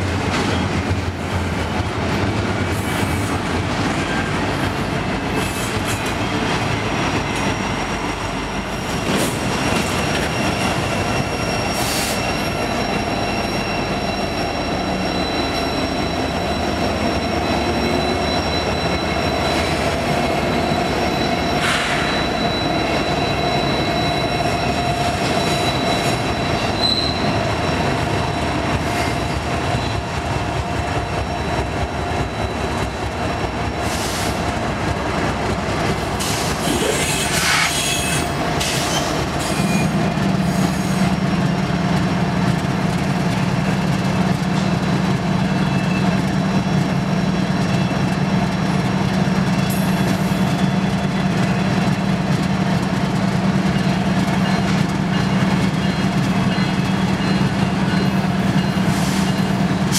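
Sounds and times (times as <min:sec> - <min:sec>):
diesel locomotives passing: 0:00.0 - 0:59.9
train wheels rumbling on rails: 0:00.0 - 0:59.9
high wheel squeals: 0:05.4 - 0:34.6, 0:35.8 - 0:59.9.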